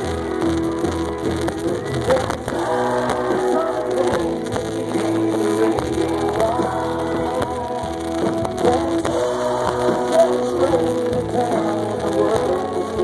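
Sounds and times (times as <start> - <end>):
guitars: 0.0 - 13.0
live country band instrumental: 0.0 - 13.0.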